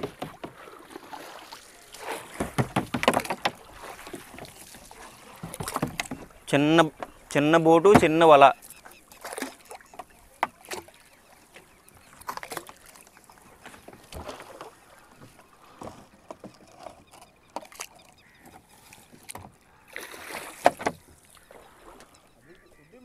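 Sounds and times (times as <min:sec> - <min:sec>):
clunks on a boat: 0:00.0 - 0:19.6, 0:20.2 - 0:23.0
water splashing around a boat: 0:00.0 - 0:23.0.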